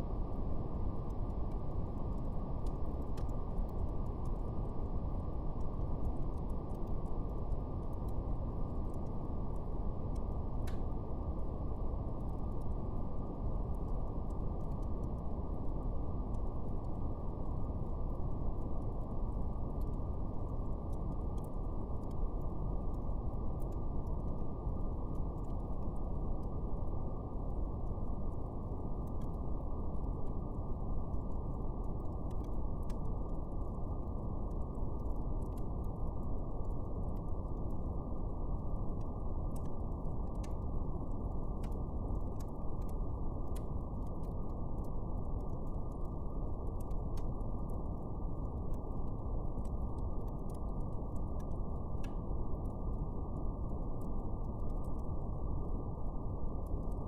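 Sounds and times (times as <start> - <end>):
brown noise rumble: 0.0 - 57.0
fire crackling: 0.0 - 57.0.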